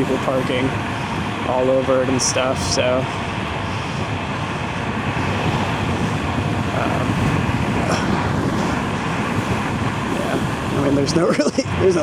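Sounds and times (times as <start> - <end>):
low road rumble: 0.0 - 12.0
wind buffeting microphone: 0.0 - 12.0.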